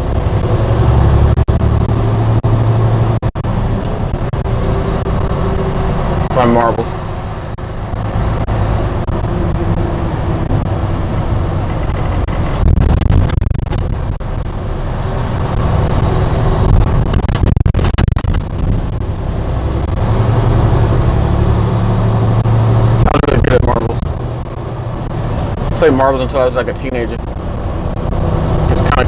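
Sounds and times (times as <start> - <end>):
road noise inside cab: 0.0 - 29.0
truck diesel engine running: 0.0 - 29.0.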